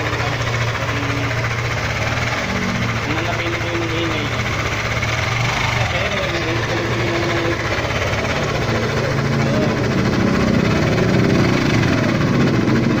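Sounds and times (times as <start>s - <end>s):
scooter engine running: 0.0s - 13.0s.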